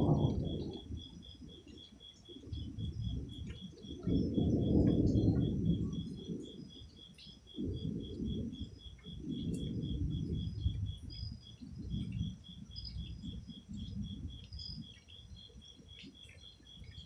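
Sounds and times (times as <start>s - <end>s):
thunder rumbling: 0.0s - 1.7s, 2.4s - 15.0s
insect chirping: 0.0s - 17.0s.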